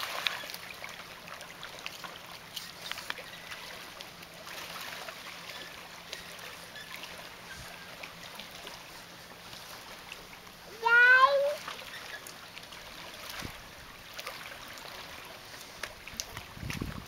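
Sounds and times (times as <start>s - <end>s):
little splashes and drips: 0.0s - 17.0s
small waves lapping on shore: 0.0s - 17.0s.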